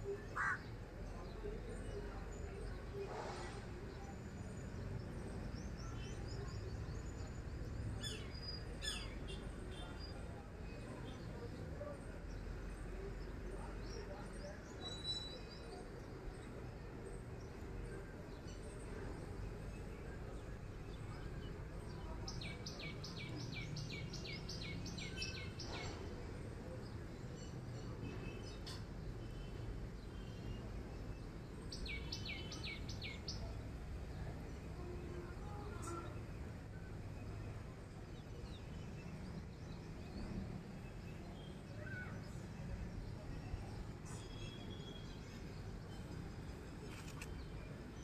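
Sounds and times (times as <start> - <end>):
outdoor background noise: 0.0 - 48.0.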